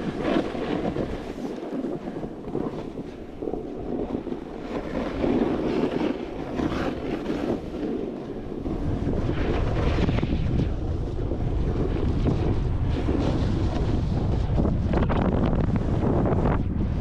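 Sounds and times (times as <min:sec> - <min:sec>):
snowboard scraping on snow: 0:00.0 - 0:17.0
wind rumbling on microphone: 0:00.0 - 0:17.0.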